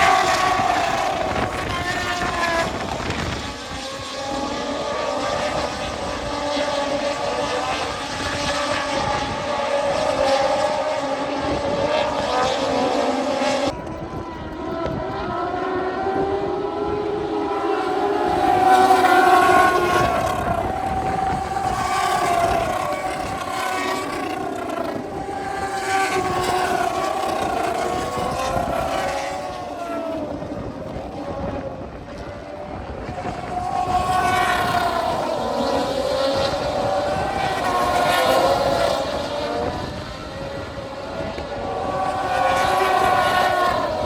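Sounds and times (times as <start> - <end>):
racing motorcycle engines screaming: 0.0 - 44.0.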